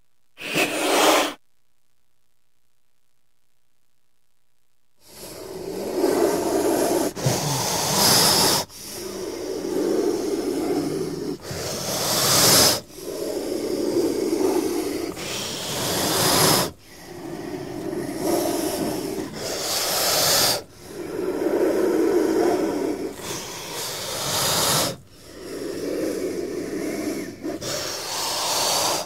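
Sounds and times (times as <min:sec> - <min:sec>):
snake hissing: 0:00.4 - 0:01.4, 0:05.0 - 0:29.0.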